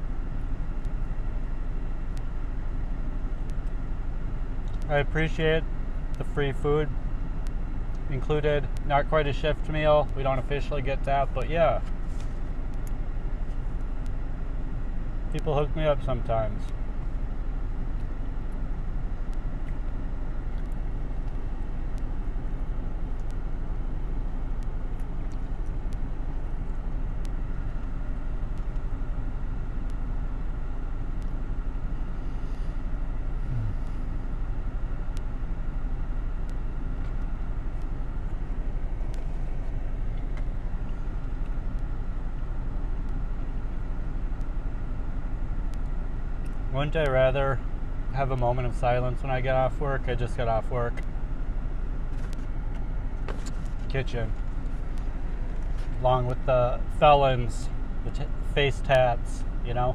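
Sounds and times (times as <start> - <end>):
low rumble and hiss inside car: 0.0 - 59.9.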